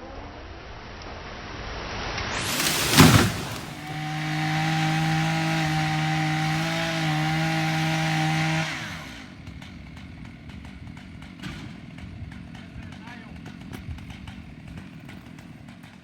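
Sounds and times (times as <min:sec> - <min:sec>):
chainsaw running: 0:02.4 - 0:16.0.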